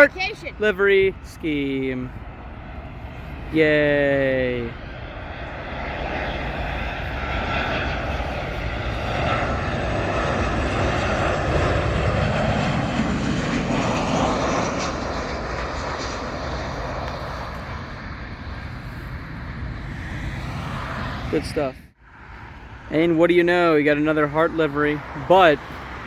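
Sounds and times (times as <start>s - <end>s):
airliner passing low: 0.0s - 26.0s
faint engine whine: 0.0s - 26.0s.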